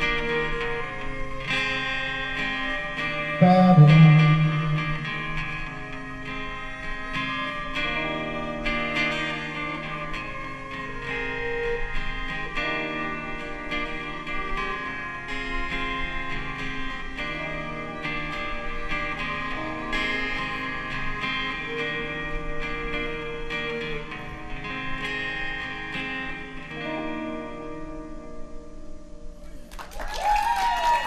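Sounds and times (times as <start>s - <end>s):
violin long held notes: 0.0s - 28.4s
acoustic guitars picking and strumming: 0.0s - 28.7s.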